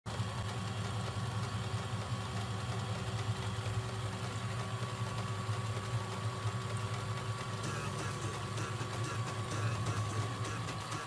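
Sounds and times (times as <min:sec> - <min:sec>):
electric motor humming: 0:00.1 - 0:11.0.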